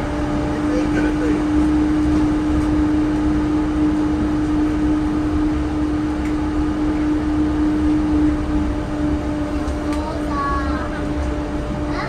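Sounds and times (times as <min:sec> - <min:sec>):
train running hum: 0:00.0 - 0:12.0.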